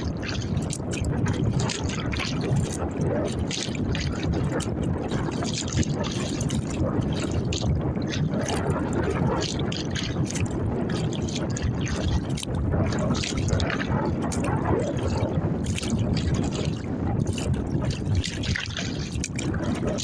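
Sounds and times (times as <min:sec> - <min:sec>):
water splashing against kayak: 0:00.0 - 0:20.0
wind rumble on microphone: 0:00.0 - 0:20.0.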